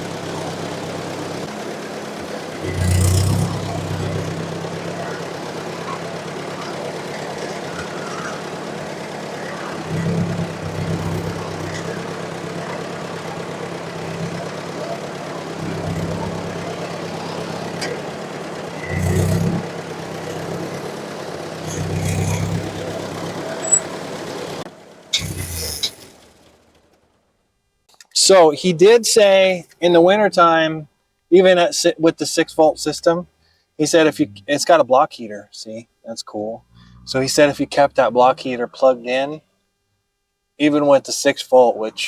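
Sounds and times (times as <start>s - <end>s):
tractor engine idling: 0.0s - 39.6s, 40.6s - 42.0s.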